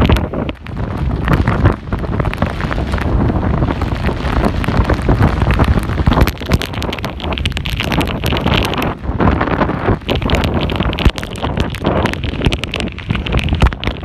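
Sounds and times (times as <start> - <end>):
waves splashing across street: 0.0 - 14.0
wind buffeting microphone: 0.0 - 14.0.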